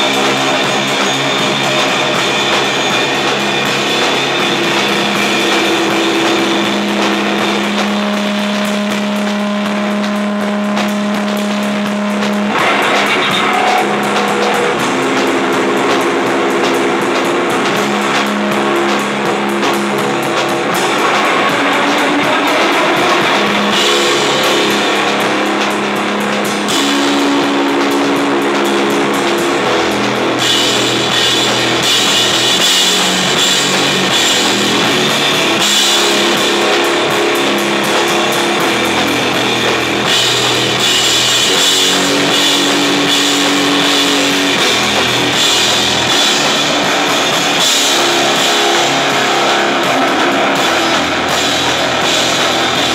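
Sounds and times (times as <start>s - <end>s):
drum kit with cymbals: 0.0s - 52.9s
electric guitar: 0.0s - 52.9s.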